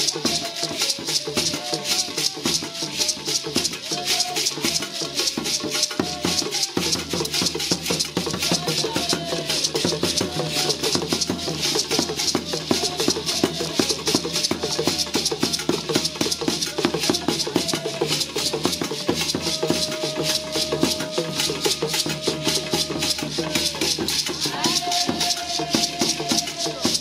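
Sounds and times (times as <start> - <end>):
gourd rattles shaken: 0.0 - 27.0
barrel drum beaten: 0.3 - 27.0.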